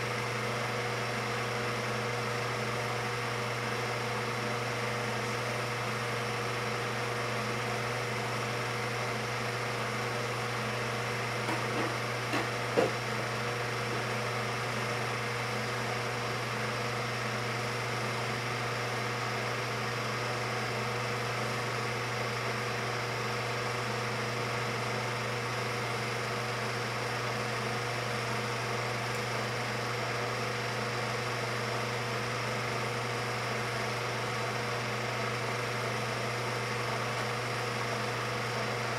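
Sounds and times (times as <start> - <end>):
film projector humming: 0.0 - 38.9.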